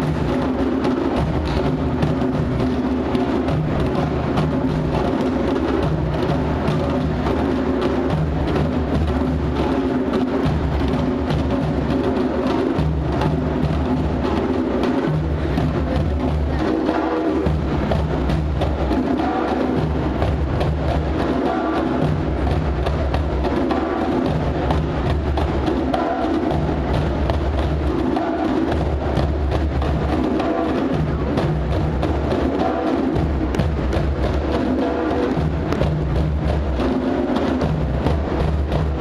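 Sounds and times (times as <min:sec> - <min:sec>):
clicking percussion beat: 0:00.0 - 0:39.0.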